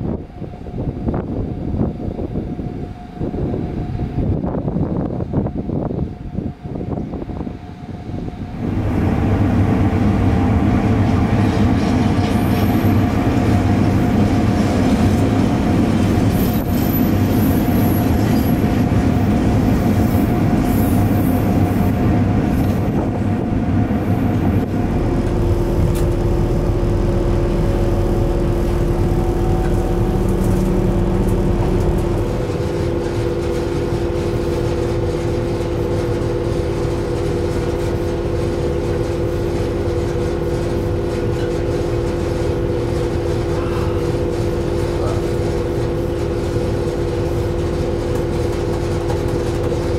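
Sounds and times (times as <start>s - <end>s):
electric locomotive hum: 0.0s - 49.9s
train wagons rumbling and rattling: 0.0s - 49.9s.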